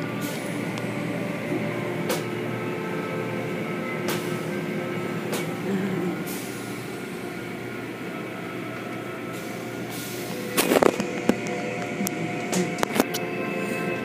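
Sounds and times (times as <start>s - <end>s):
car wash machinery hum: 0.0s - 14.0s.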